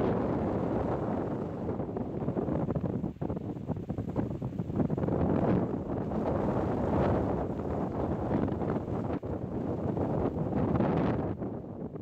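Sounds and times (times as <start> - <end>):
strong wind blowing through trees: 0.0 - 12.0
wind buffeting microphone: 0.0 - 12.0.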